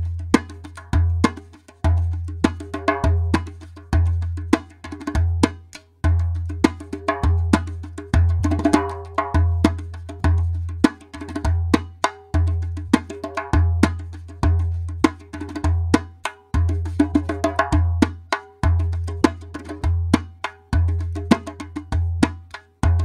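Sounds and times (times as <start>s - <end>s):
hand drum rhythm: 0.0s - 23.0s.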